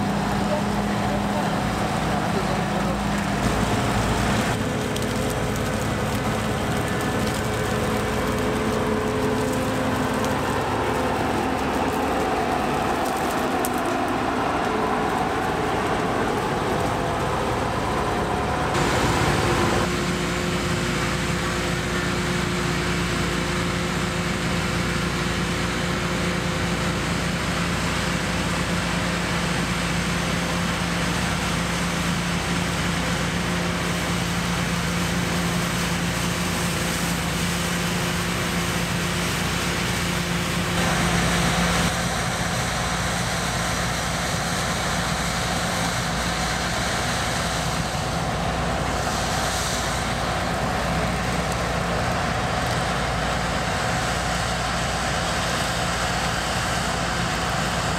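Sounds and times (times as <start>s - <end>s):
broad rushing noise: 0.0s - 57.9s
combine harvester engine drone: 0.0s - 57.9s.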